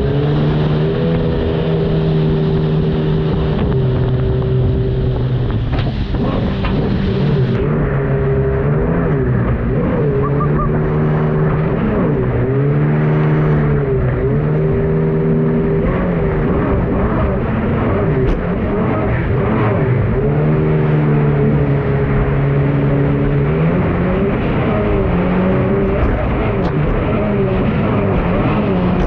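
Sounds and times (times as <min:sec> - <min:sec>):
boat engine revving: 0:00.0 - 0:29.0
steady rushing noise: 0:00.0 - 0:29.0.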